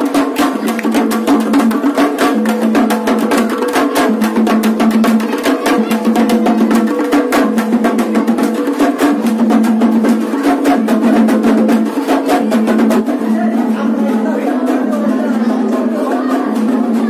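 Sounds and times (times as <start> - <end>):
fast loud drumming: 0.0 - 17.0.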